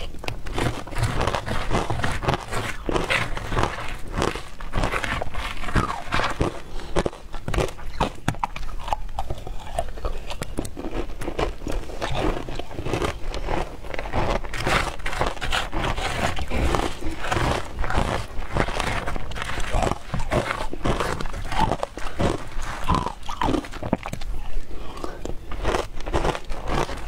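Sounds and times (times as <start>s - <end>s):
plastic spoon scraping ice: 0.0s - 9.1s, 9.8s - 27.0s
ice crunching in mouth: 0.0s - 27.0s.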